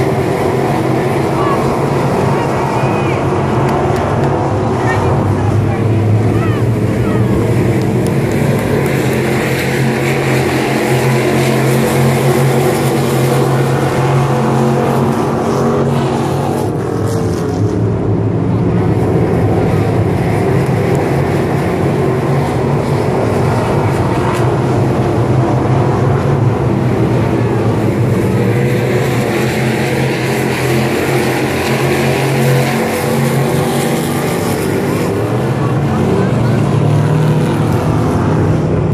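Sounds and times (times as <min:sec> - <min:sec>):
race car engines droning: 0:00.0 - 0:38.9.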